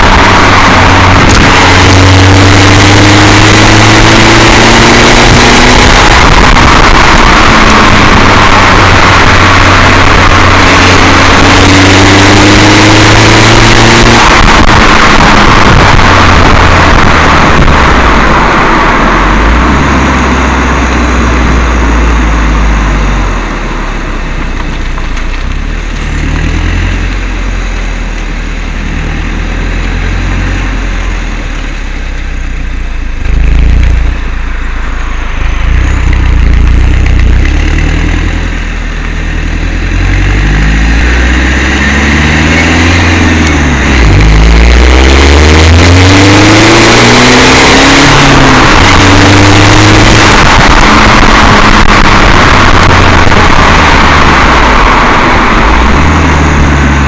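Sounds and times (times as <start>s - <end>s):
car exhaust droning: 0.0s - 57.0s.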